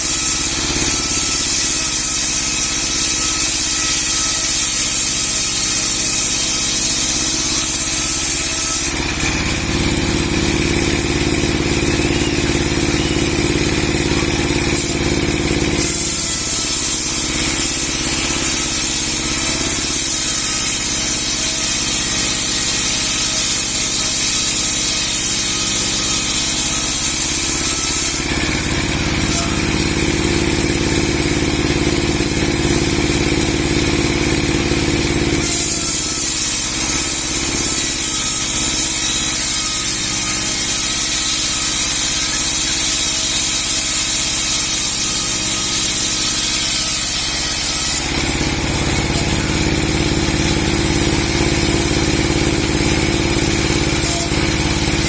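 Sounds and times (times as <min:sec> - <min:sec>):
log-sawing machine running: 0:00.0 - 0:55.0.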